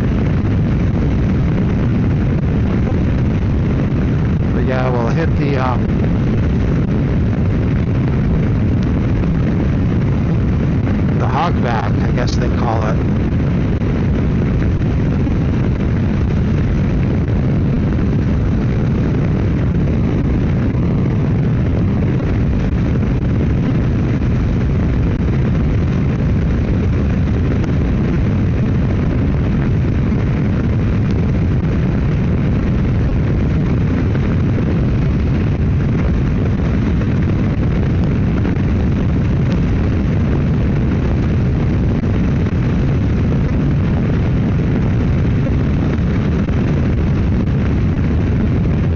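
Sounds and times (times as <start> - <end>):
wind rushing on microphone: 0.0 - 48.9.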